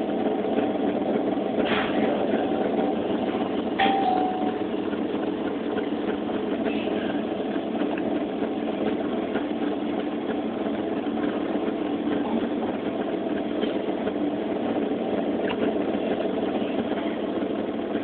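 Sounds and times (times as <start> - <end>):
mechanical running hum: 0.0 - 18.0.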